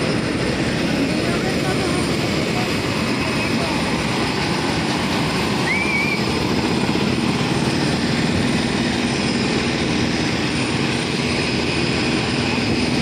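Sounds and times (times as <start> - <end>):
jet airliner noise: 0.0 - 13.0.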